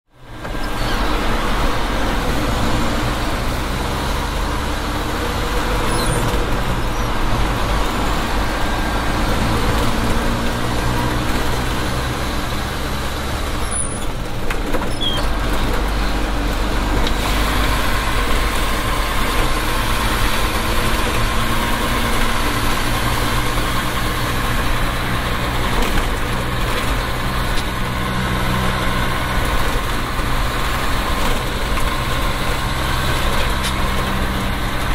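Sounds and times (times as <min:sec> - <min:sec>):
diesel engine drone: 0:00.1 - 0:34.9
road noise: 0:00.1 - 0:34.9.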